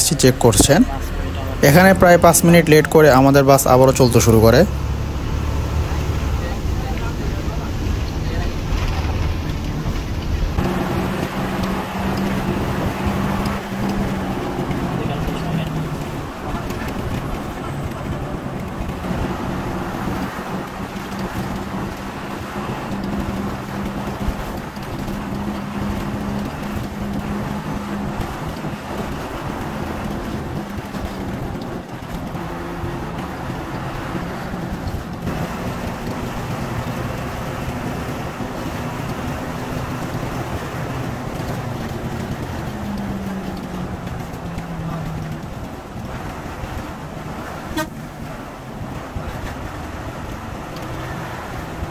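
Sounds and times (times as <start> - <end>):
bus engine hum: 0.0 - 51.9
road noise: 0.0 - 51.9.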